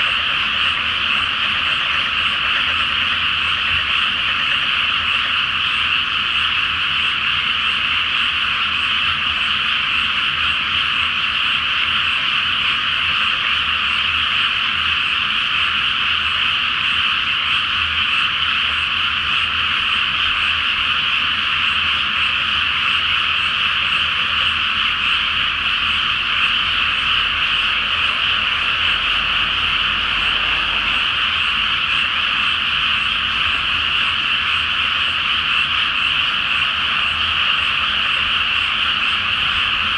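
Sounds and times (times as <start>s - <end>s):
frog chorus: 0.0s - 39.9s.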